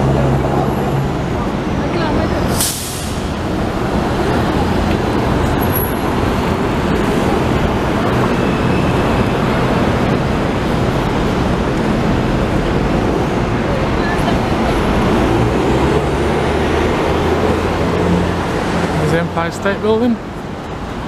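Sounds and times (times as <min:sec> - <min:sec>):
tyres on road: 0:00.0 - 0:21.0
vehicle engines: 0:00.0 - 0:21.0.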